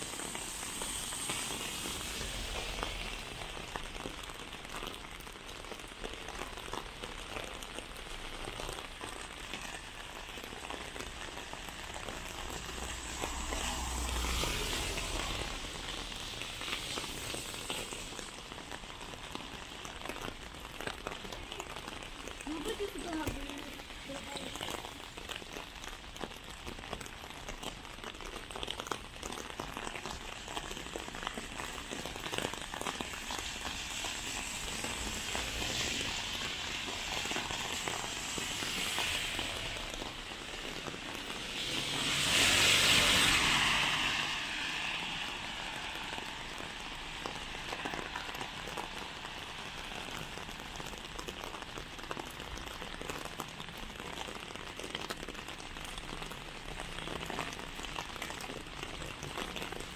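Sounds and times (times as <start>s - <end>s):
rain on street: 0.0s - 59.9s
vehicle tyres on wet road: 0.0s - 59.9s.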